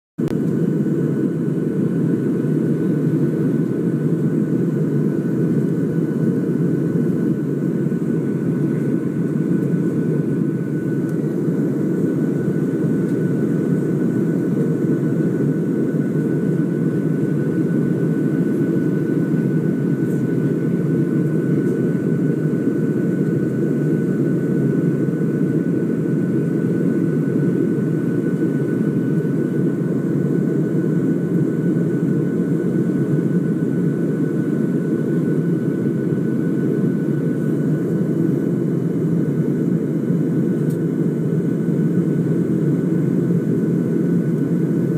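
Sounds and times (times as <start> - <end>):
faint steady whine: 0.2 - 44.9
low rumble of jet engines: 0.2 - 44.9.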